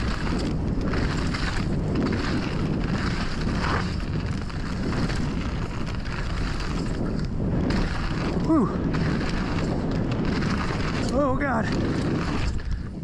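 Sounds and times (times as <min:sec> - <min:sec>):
tyres rumbling in dirt: 0:00.0 - 0:12.8
bike rattling and knocking: 0:00.0 - 0:13.0
wind rushing over microphone: 0:00.0 - 0:13.0.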